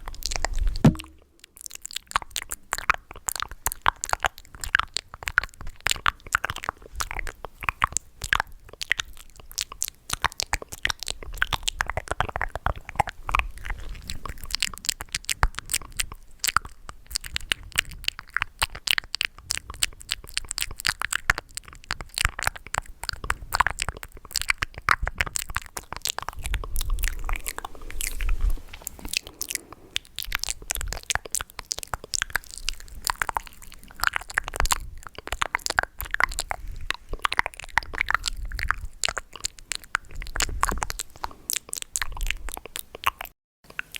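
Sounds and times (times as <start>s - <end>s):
mouth clicks and smacks: 0.0s - 43.9s.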